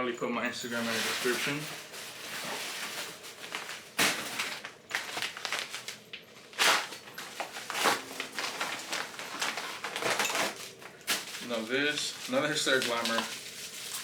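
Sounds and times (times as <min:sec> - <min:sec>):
packaging rustling and crinkling: 0:00.6 - 0:14.0.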